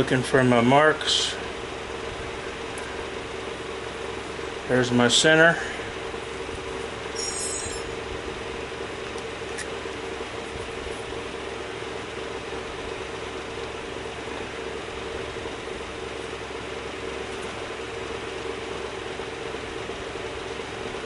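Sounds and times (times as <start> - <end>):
workshop machinery humming: 0.0 - 21.0.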